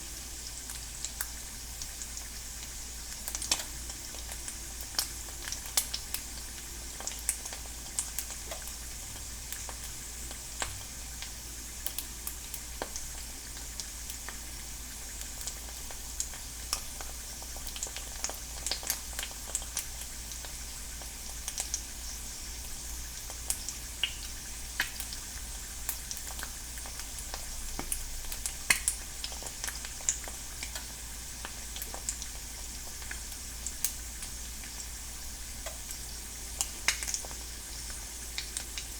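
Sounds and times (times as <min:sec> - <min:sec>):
egg sizzling in a pan: 0:00.0 - 0:38.9.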